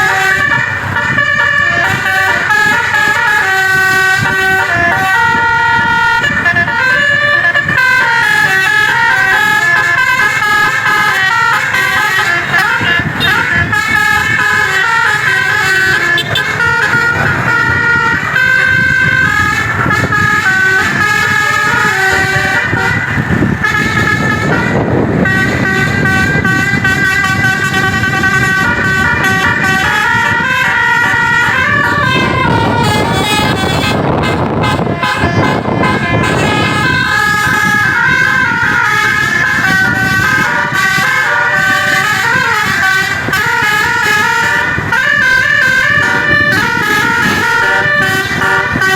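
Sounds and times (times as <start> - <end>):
multi-tone bus horn tunes: 0.0 - 48.9.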